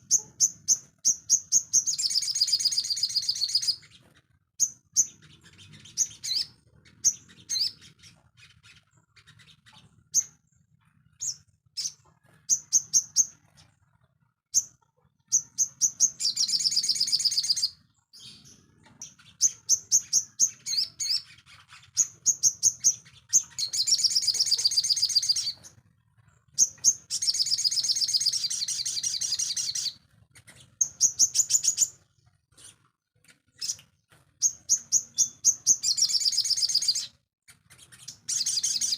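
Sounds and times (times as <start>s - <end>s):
songbird chattering song: 0.0s - 13.8s, 14.5s - 25.8s, 26.5s - 32.0s, 32.6s - 38.9s.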